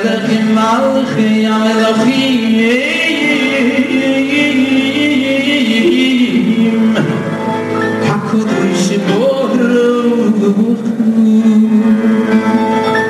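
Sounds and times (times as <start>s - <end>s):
guitar: 0.0s - 13.0s
keyboard: 0.0s - 13.0s
man singing into microphone: 0.0s - 13.0s.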